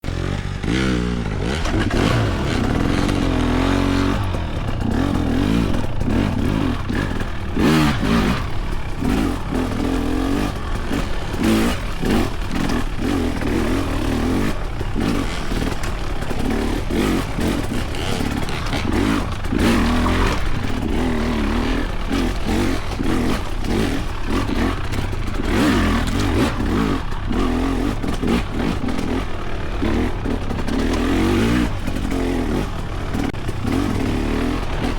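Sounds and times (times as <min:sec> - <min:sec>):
motorcycle engine lugging: 0:00.4 - 0:34.9.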